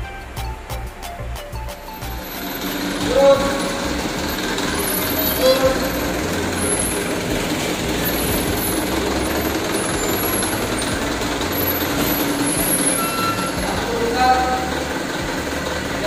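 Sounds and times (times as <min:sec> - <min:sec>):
diesel truck engine rolling past: 0:00.0 - 0:16.0.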